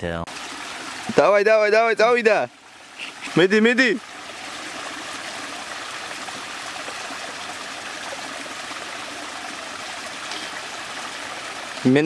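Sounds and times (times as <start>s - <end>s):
stream trickling over rocks: 0.3s - 12.0s.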